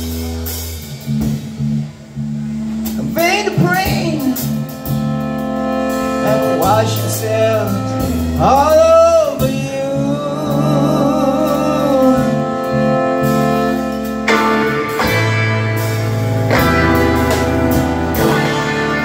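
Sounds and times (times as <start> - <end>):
bass guitar: 0.0 - 19.0
drum kit: 0.0 - 19.0
electric guitar: 0.0 - 19.0
keyboard: 0.0 - 19.0.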